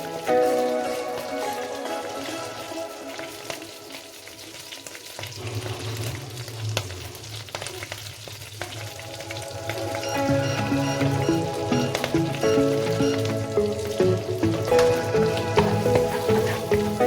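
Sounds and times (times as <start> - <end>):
food sizzling and popping in a pan: 0.0 - 17.0.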